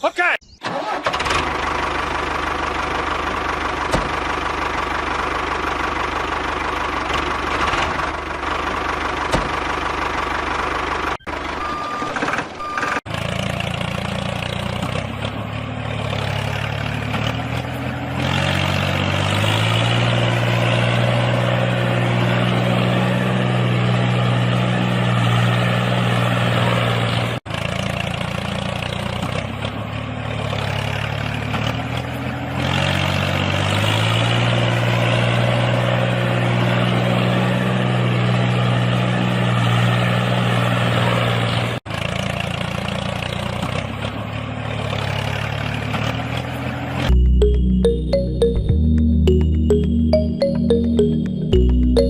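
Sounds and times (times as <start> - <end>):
vehicle engine running: 1.3 - 11.9, 13.1 - 36.8, 41.8 - 52.0.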